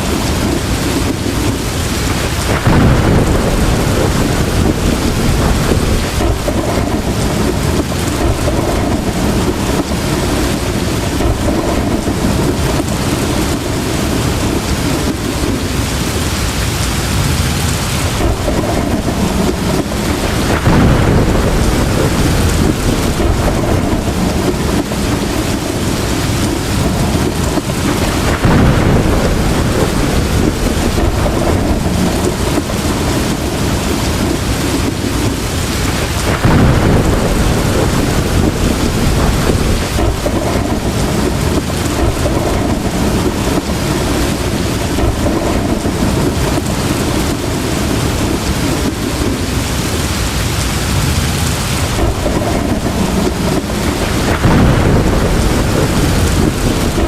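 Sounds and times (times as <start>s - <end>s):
heavy rain pouring: 0.0s - 57.0s
thunder rumbling: 0.0s - 57.0s.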